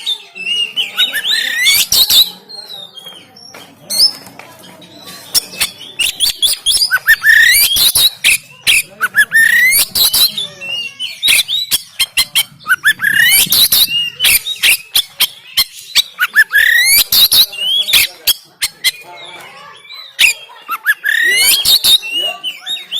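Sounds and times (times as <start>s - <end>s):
songbird singing harsh rapid song: 0.0s - 4.3s, 5.0s - 22.9s.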